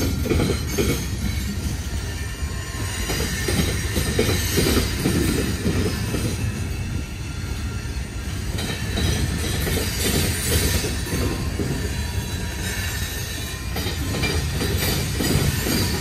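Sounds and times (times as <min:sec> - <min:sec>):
freight train wheels clattering on rails: 0:00.0 - 0:16.0.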